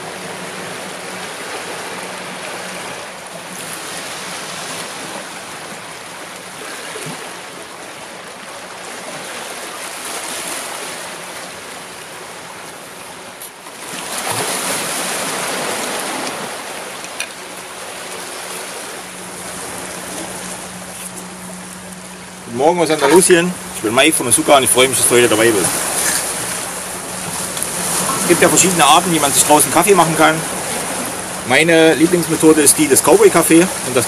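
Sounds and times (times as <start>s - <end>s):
surf washing over rocky shore: 0.0s - 34.0s.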